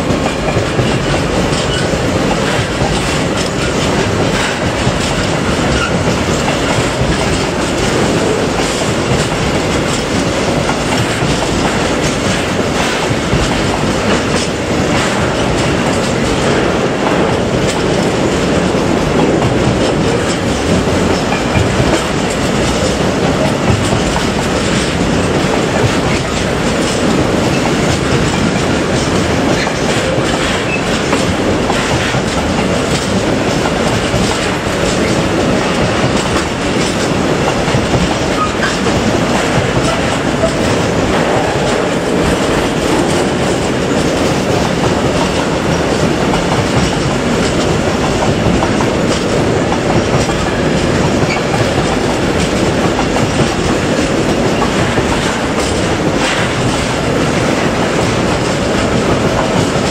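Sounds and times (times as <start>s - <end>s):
freight train rumbling past: 0.0s - 59.9s
wheels clacking over rail joints: 0.0s - 59.9s.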